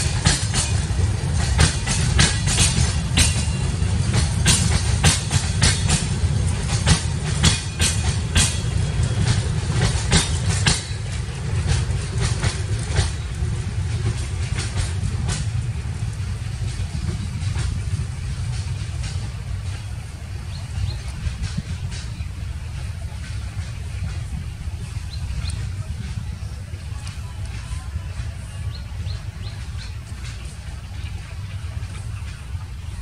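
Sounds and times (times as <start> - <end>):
train rumbling past: 0.0 - 33.0
wheel clacks over rail joints: 0.0 - 33.0.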